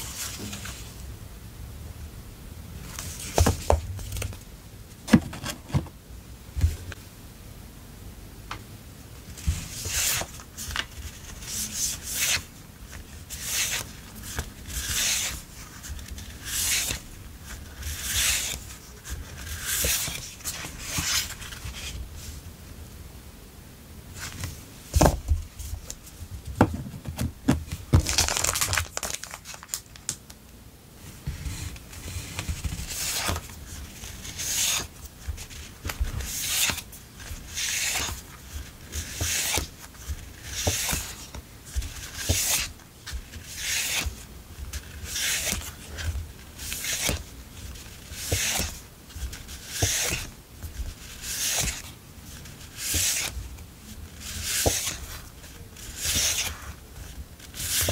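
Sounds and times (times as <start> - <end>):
paper sheets rustling: 2.8 - 4.4, 9.3 - 22.4, 24.2 - 30.1, 31.0 - 57.9.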